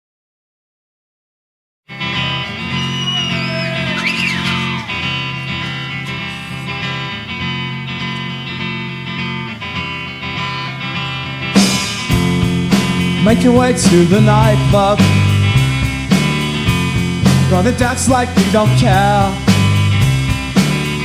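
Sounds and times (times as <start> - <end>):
guitar-led rock song: 1.9 - 21.0.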